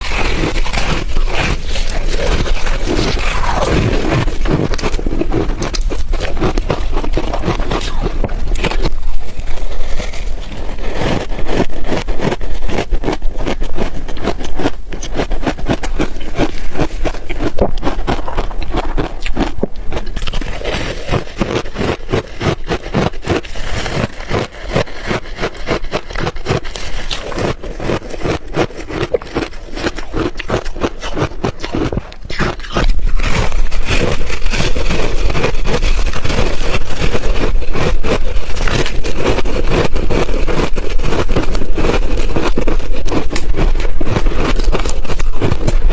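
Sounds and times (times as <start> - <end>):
ice crunching being chewed: 0.0 - 45.9.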